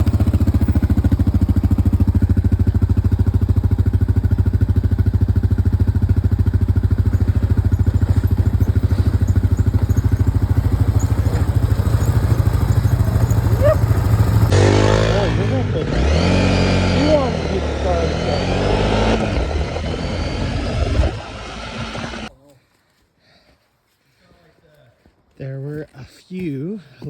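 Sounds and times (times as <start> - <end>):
atv engine running: 0.0 - 22.3.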